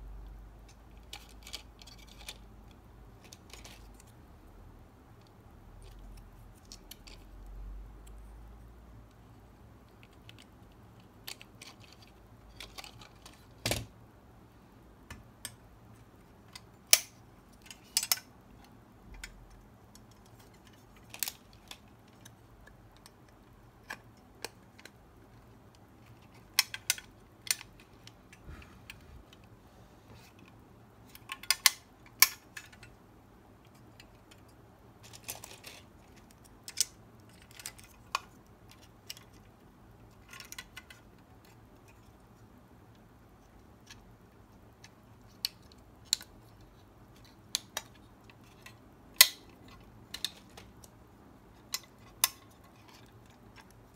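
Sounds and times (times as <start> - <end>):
plastic and metal parts clicking: 0.7 - 4.2, 5.8 - 7.4, 9.8 - 13.9, 15.1 - 29.5, 30.2 - 33.0, 33.6 - 42.2, 43.8 - 53.9.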